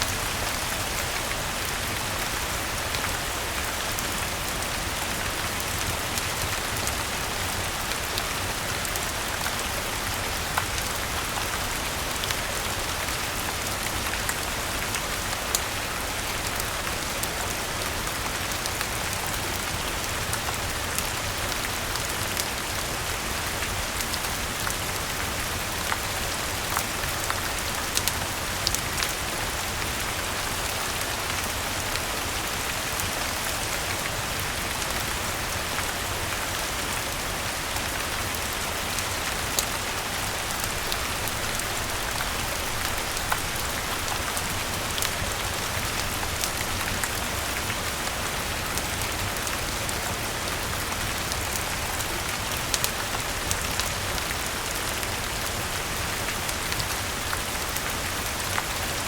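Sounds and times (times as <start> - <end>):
rain hissing on surfaces: 0.0 - 59.0.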